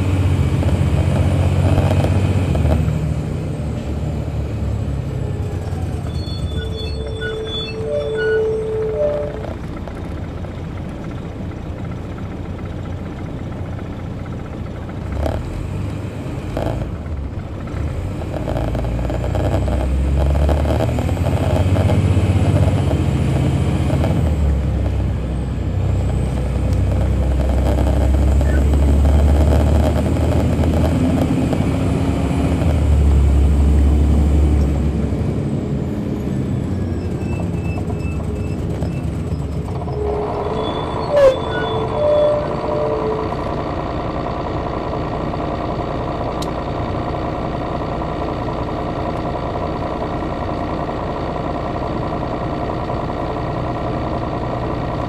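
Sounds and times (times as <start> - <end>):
diesel bus engine accelerating: 0.0 - 55.0.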